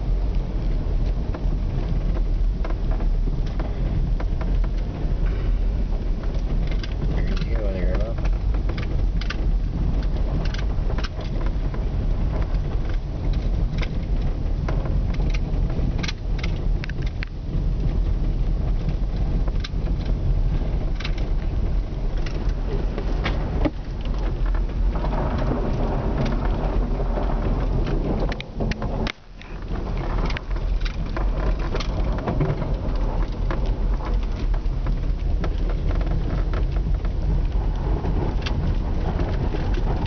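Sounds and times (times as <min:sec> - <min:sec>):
car cabin low rumble: 0:00.0 - 0:40.0.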